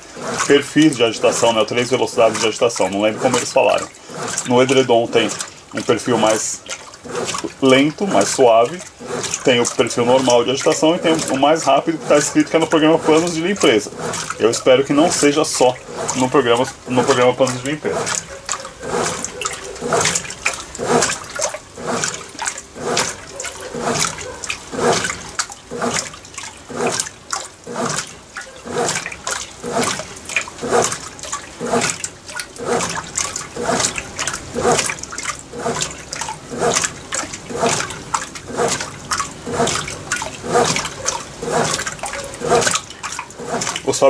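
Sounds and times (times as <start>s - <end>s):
washing machine water sloshing: 0.0s - 44.0s.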